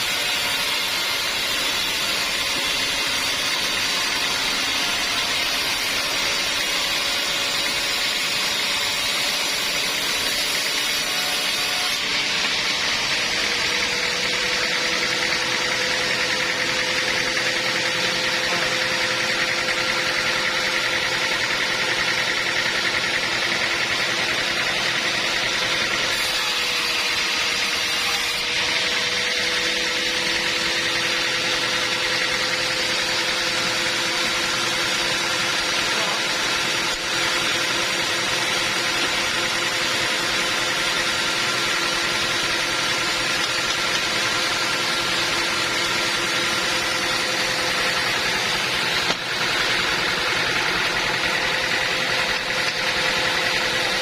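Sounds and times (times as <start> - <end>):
band sawmill humming: 0.0 - 54.0.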